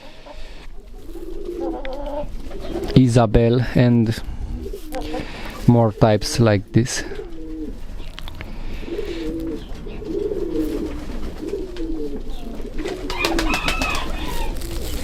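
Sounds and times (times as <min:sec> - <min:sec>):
birds cooing: 0:00.0 - 0:15.0.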